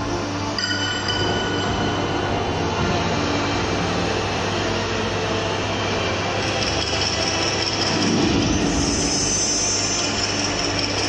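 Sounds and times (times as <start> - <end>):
rushing rumbling soundtrack: 1.2 - 11.0.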